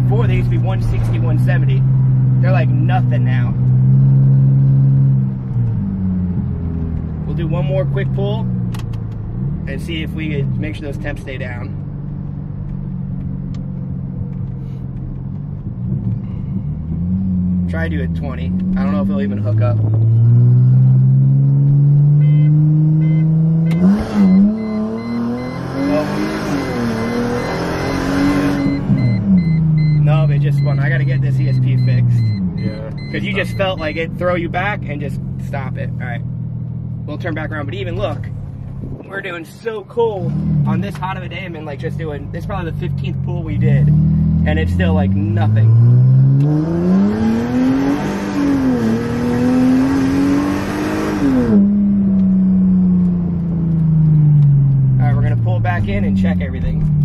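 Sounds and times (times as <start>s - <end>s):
car engine at full throttle: 0.0s - 57.0s.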